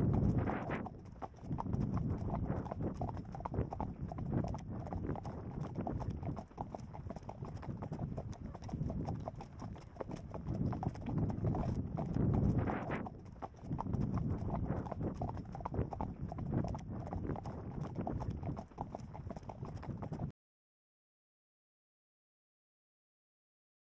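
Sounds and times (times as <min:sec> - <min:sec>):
hooves thudding on dirt: 0:00.0 - 0:20.3.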